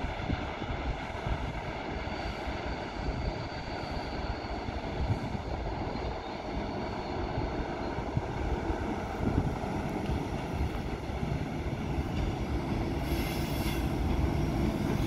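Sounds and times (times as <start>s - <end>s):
freight train rumble: 0.0s - 15.0s
wind buffeting microphone: 0.0s - 15.0s.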